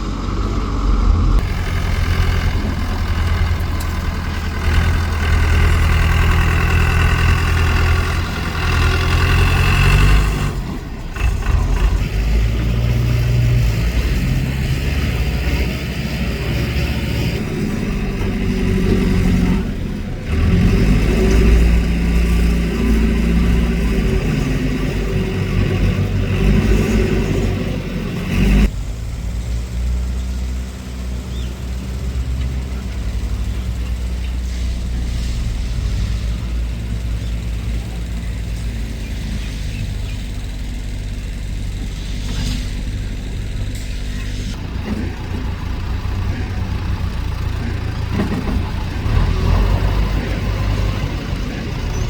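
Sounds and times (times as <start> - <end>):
vehicle engine rumbling: 0.0 - 52.0.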